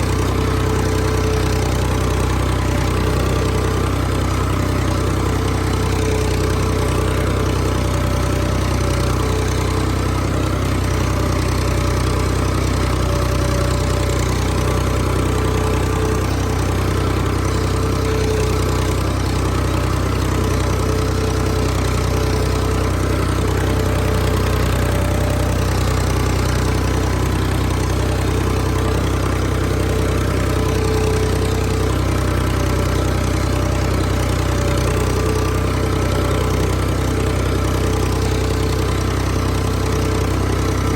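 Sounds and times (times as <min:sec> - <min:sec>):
machine engine running steadily: 0:00.0 - 0:40.9.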